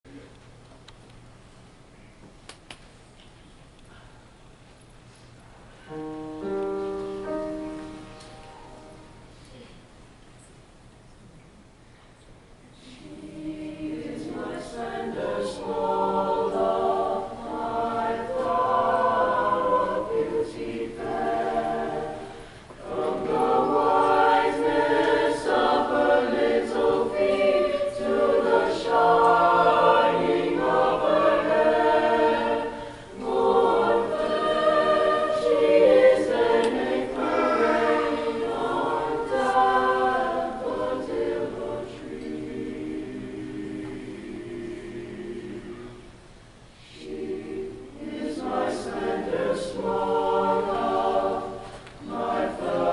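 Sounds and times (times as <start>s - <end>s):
choir singing in harmony: 5.9s - 9.4s, 12.8s - 52.9s.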